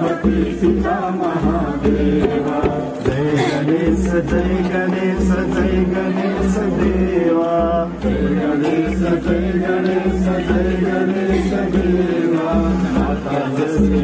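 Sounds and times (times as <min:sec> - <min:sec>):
low regular beat: 0:00.0 - 0:14.0
voices singing a hymn: 0:00.0 - 0:14.0.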